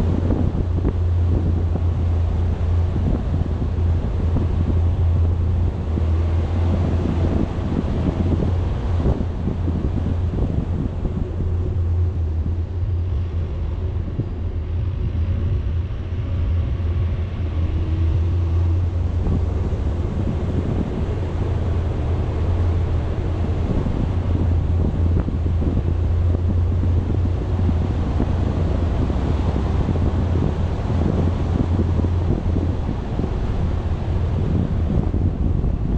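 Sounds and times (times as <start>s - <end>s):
vehicle driving on road: 0.0s - 35.9s
wind buffeting microphone: 0.0s - 35.9s.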